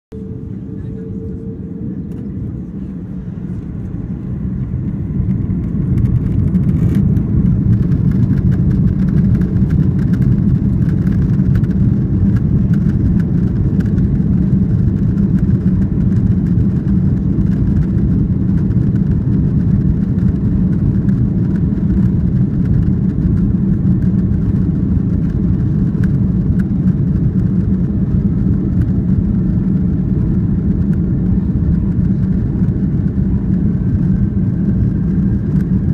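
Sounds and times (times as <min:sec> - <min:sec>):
jet engines roaring: 0:00.1 - 0:35.9
runway rumble: 0:00.1 - 0:35.9.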